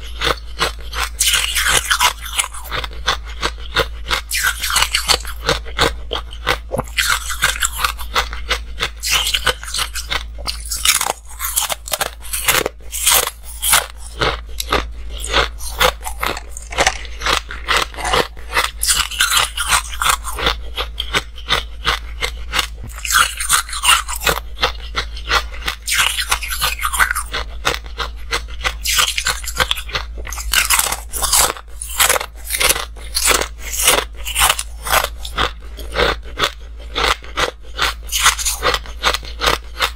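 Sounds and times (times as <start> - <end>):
ice sticks crunching while chewed: 0.0 - 39.9.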